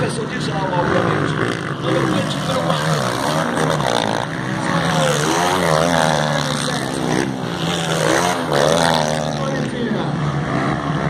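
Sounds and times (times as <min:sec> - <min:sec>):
motocross engines revving: 0:00.0 - 0:11.0.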